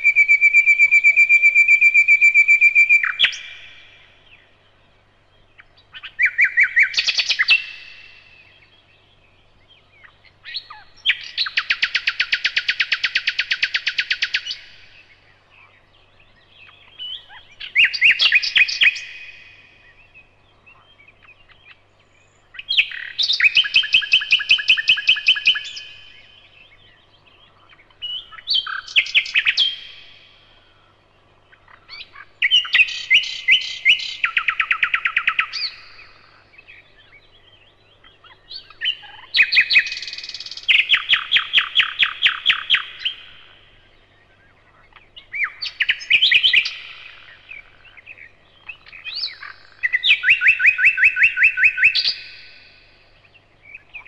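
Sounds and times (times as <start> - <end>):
nightingale singing: 0.0 - 54.0.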